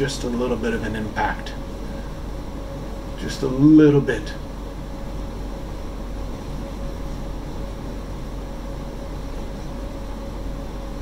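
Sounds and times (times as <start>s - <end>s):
ventilation hum and hiss: 0.0s - 11.0s.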